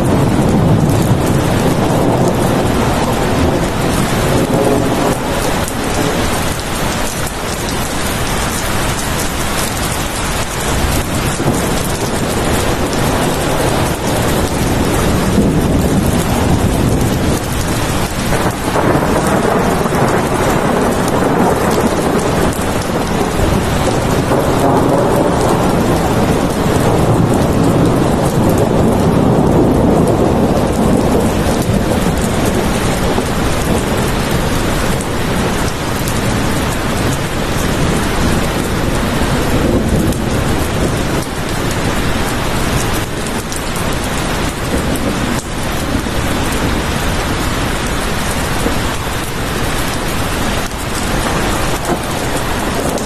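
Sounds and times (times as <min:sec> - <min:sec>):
heavy rain falling: 0:00.0 - 0:53.0
thunder rumbling: 0:00.0 - 0:53.0.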